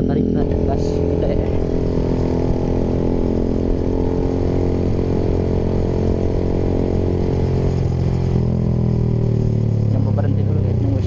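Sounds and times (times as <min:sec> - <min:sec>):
motorcycle engine at low throttle: 0:00.0 - 0:11.0.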